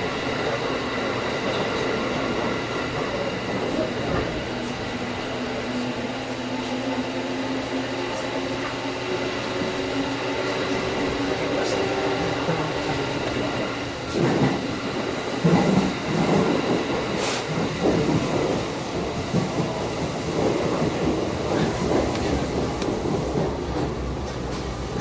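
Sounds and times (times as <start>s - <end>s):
train wheels rumbling and knocking: 0.0s - 25.0s.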